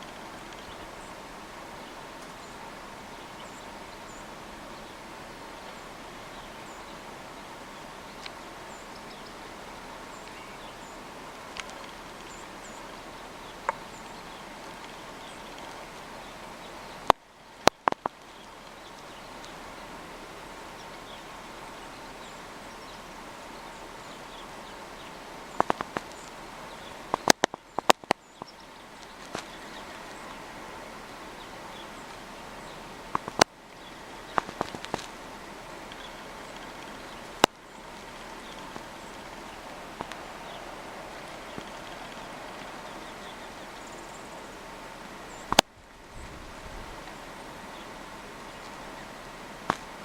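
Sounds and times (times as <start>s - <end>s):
small birds chip calls: 0.0s - 45.6s
steady hiss: 0.0s - 50.0s.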